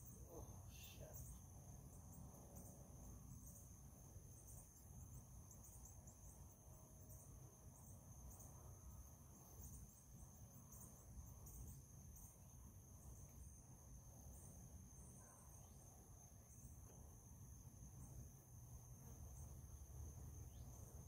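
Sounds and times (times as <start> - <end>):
insect chorus high-pitched trill: 0.0 - 21.0.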